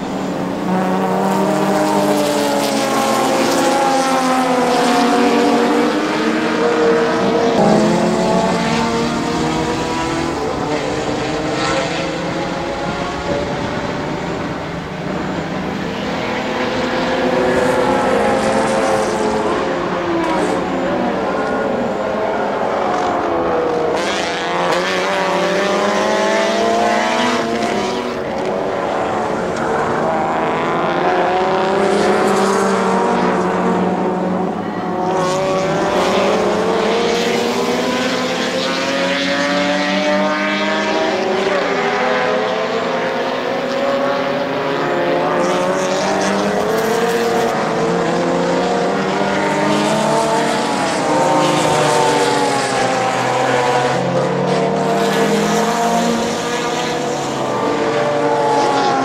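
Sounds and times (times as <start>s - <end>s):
race car engines at high revs: 0.0s - 59.0s.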